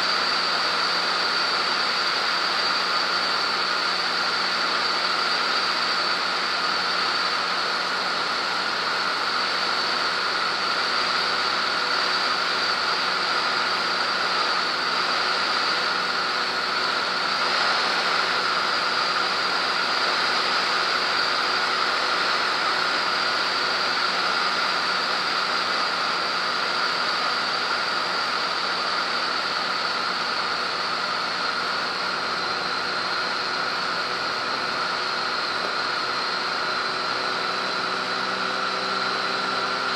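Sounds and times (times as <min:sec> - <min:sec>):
propeller plane engine in flight: 0:00.0 - 0:39.9
steady high whine: 0:00.0 - 0:39.9.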